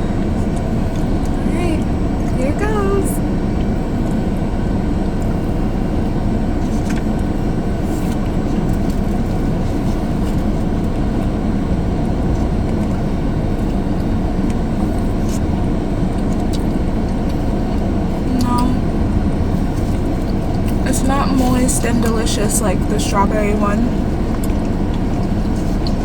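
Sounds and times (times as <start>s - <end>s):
car engine rumble: 0.0s - 26.0s
chewing on a biscuit: 3.5s - 23.0s, 23.9s - 26.0s.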